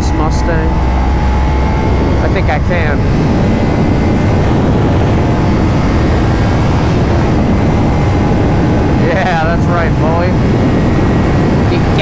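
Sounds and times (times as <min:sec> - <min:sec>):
motorcycle engine accelerating: 0:00.0 - 0:12.0
wind noise: 0:00.0 - 0:12.0.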